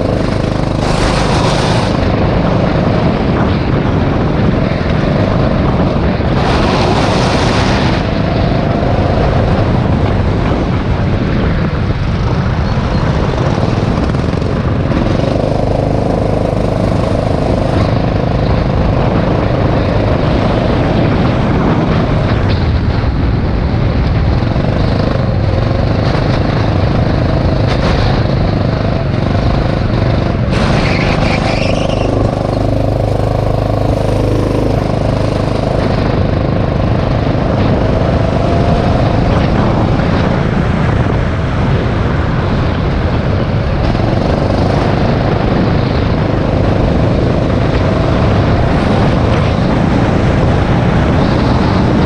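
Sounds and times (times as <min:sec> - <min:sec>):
go-kart engine racing: 0:00.0 - 0:52.0.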